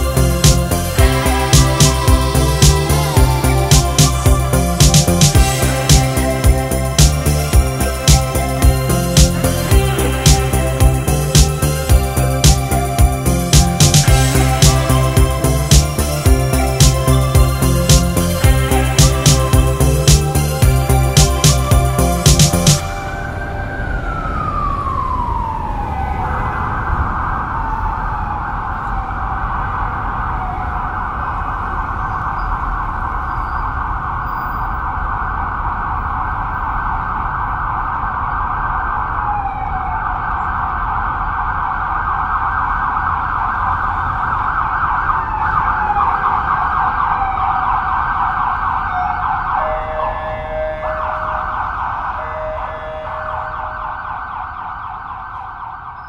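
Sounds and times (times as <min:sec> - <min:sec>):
emergency vehicle siren: 0:00.0 - 0:56.0
low city rumble: 0:00.0 - 0:56.0.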